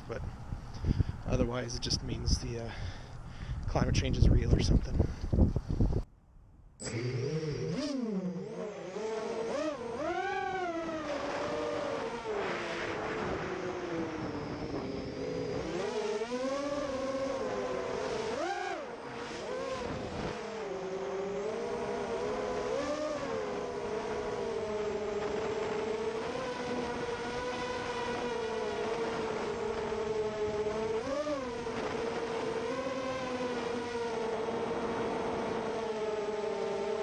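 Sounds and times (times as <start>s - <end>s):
quadcopter motors whining: 6.8s - 37.0s.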